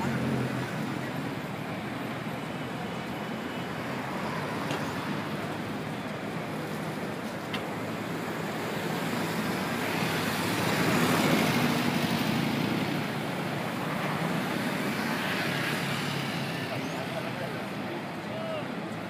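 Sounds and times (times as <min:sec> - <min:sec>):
cars driving past: 0:00.0 - 0:19.0.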